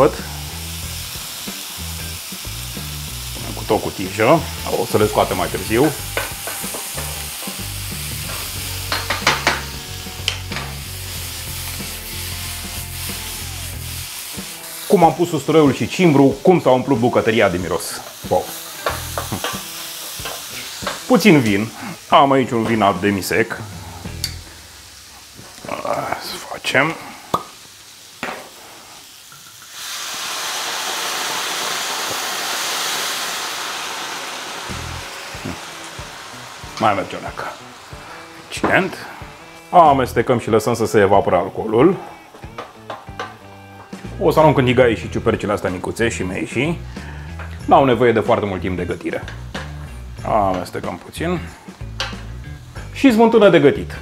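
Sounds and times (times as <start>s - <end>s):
wine hissing in hot pan: 0.0s - 53.8s
mushrooms sizzling in oil: 0.0s - 54.0s.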